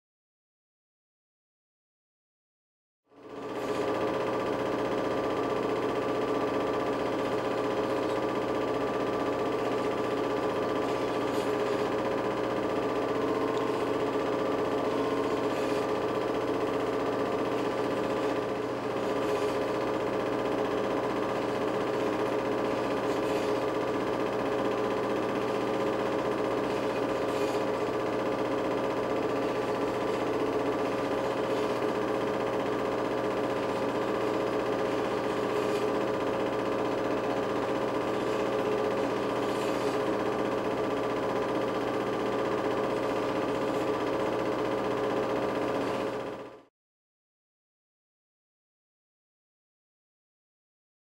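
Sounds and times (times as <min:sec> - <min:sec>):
film projector whirring: 0:03.1 - 0:46.7.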